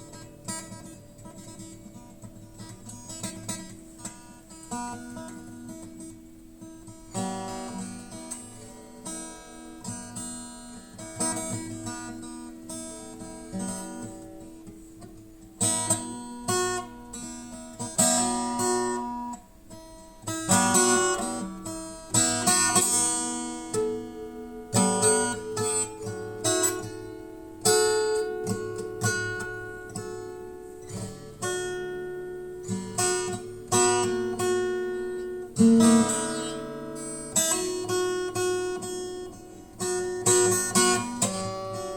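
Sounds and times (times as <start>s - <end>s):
acoustic guitar plucking and strumming: 0.0s - 41.9s.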